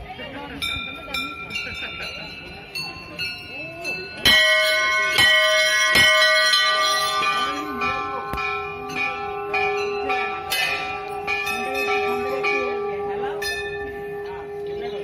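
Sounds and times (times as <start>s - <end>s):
faint voices: 0.0s - 15.0s
metal bells ringing: 0.0s - 15.0s.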